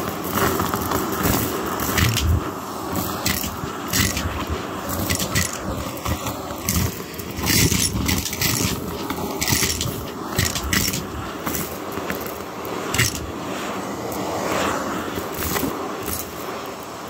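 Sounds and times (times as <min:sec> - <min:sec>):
debris rattling up vacuum hose: 0:00.0 - 0:13.5, 0:15.0 - 0:17.0
vacuum cleaner running on carpet: 0:00.0 - 0:17.0.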